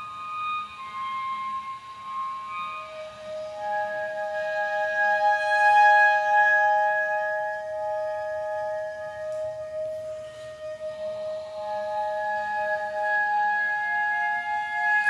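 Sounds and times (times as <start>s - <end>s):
steady low held tone: 0.0s - 15.0s.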